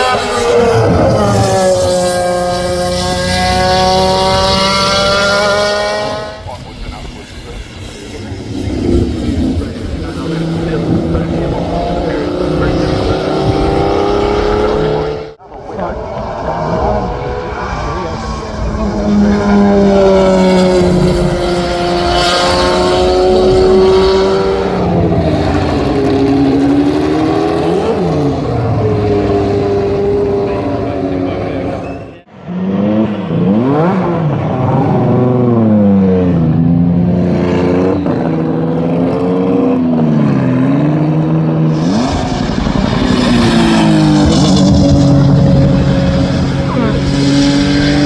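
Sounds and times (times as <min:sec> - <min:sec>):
car engine revving: 0:00.0 - 0:48.0
race car engine at full throttle: 0:00.0 - 0:48.0.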